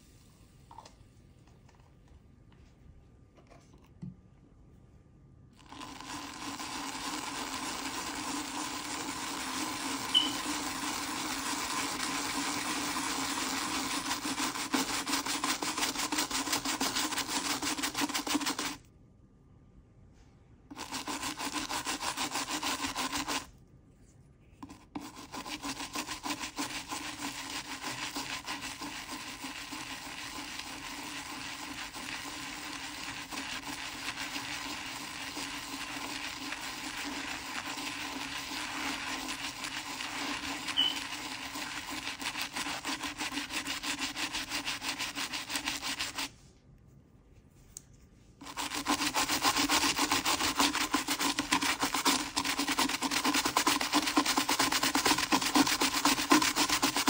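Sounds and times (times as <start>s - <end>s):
brush scrubbing wet paste: 5.6s - 18.8s, 20.7s - 23.5s, 24.6s - 46.4s, 48.4s - 57.0s.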